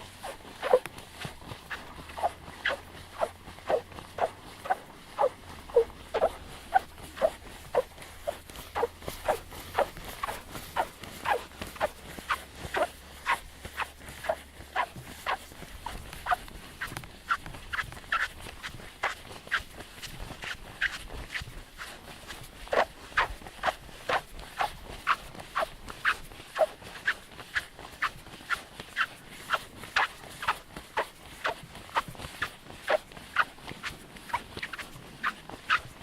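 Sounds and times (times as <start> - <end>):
sand squeaking under foot: 0.0 - 36.0.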